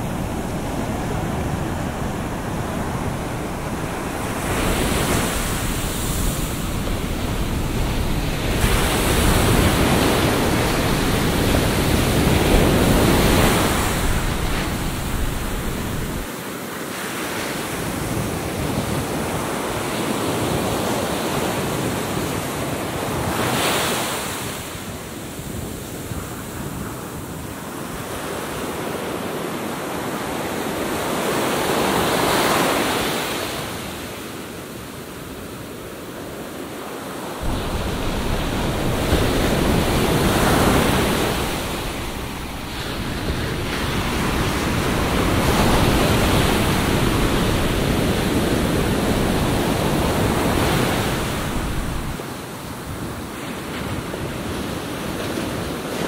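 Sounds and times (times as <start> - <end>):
wind rumble on the microphone: 0.0 - 16.4, 17.5 - 36.4, 37.4 - 56.0
surf breaking on a sandy beach: 0.0 - 35.6, 36.3 - 56.0.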